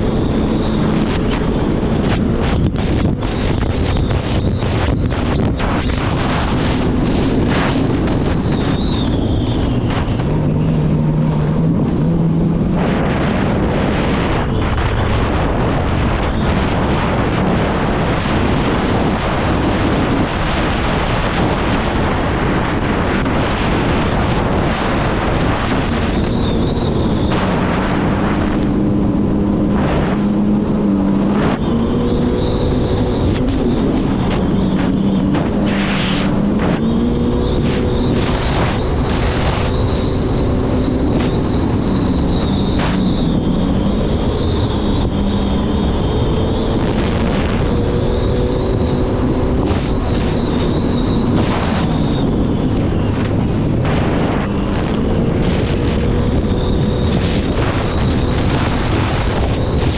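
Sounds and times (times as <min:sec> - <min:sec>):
high whine: 0:00.0 - 0:59.9
jet ski engine running: 0:00.0 - 0:59.9
wind on microphone: 0:00.0 - 0:59.9.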